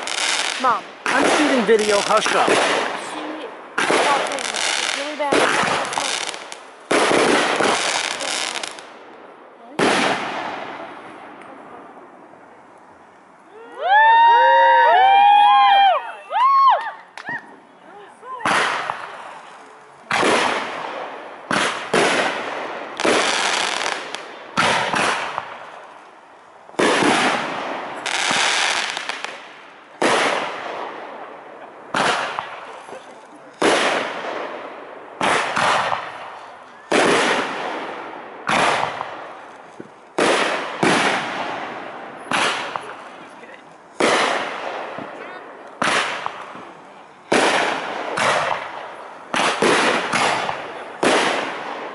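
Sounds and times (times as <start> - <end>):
fireworks bursting: 0.0 - 15.8, 16.4 - 51.9.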